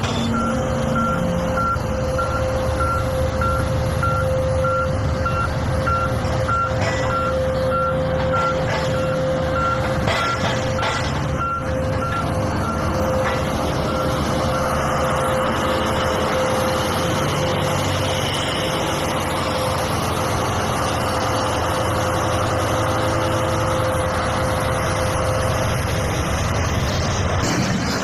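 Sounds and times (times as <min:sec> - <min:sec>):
whining tone: 0:00.0 - 0:27.8
diesel engine rumbling: 0:00.0 - 0:28.0.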